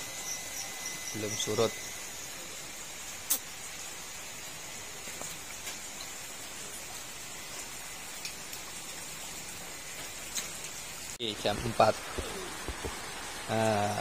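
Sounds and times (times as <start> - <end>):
heavy rain falling: 2.3 - 14.0.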